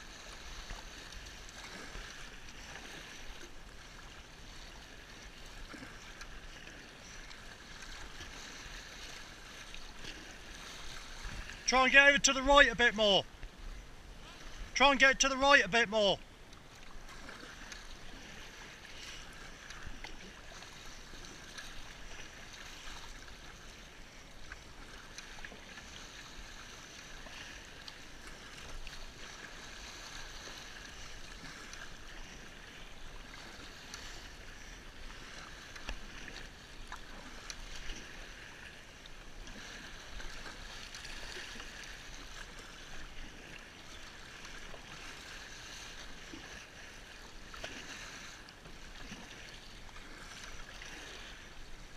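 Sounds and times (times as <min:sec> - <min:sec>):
water splashing against kayak: 0:00.0 - 0:51.9.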